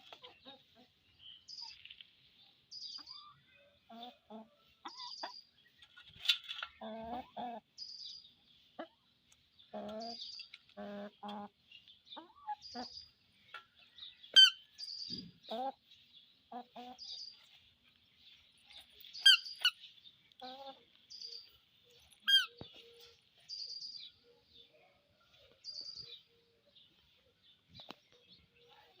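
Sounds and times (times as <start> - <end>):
chickens clucking: 0.0 - 29.0
small birds chirping: 0.0 - 29.0.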